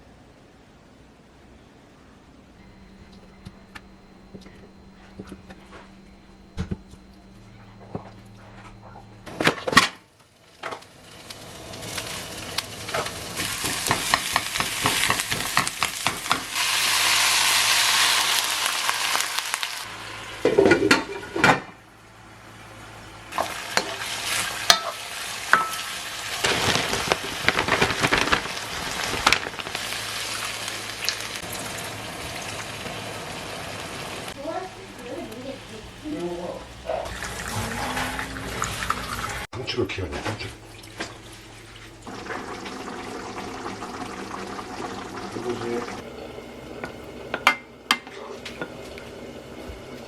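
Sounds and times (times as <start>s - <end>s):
food sizzling in pan: 2.6s - 39.5s, 40.6s - 50.0s.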